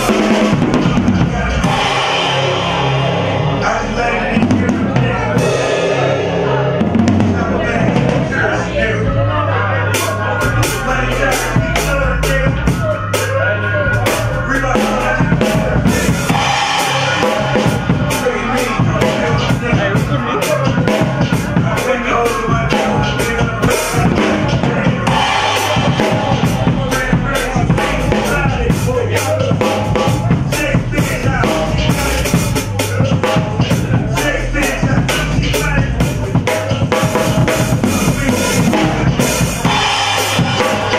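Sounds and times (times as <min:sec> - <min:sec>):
drum kit playing: 0:00.0 - 0:40.9.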